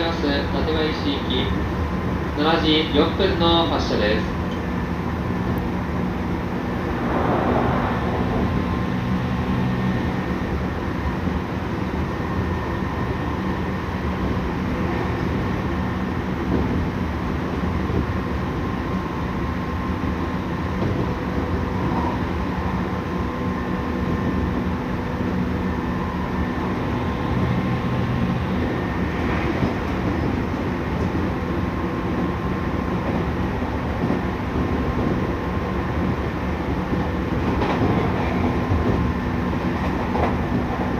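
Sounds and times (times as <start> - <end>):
train traction motor hum: 0.0 - 40.9
wheels rumbling on rail: 0.0 - 40.9.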